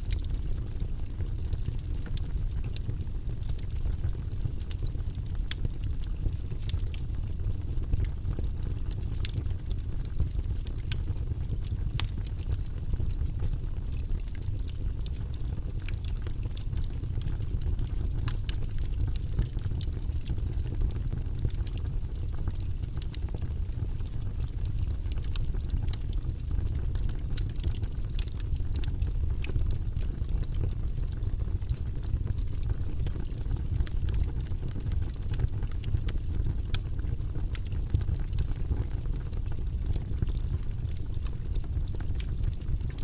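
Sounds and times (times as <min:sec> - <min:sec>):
fire pops and snaps: 0:00.0 - 0:43.0
wood fire crackling: 0:00.0 - 0:43.0.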